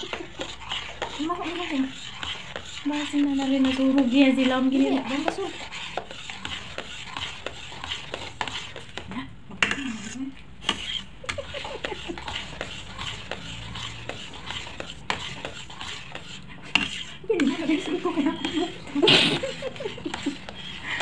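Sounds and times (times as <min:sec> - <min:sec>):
spatula scraping a pot: 0:00.0 - 0:21.0.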